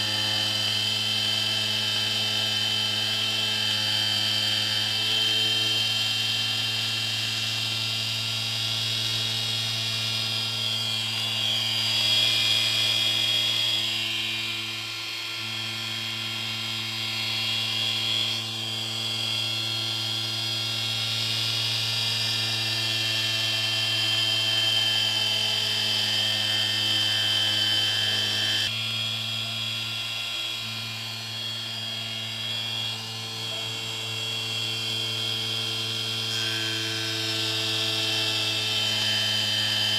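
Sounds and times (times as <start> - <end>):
stepper motor whine: 0.0 - 39.9.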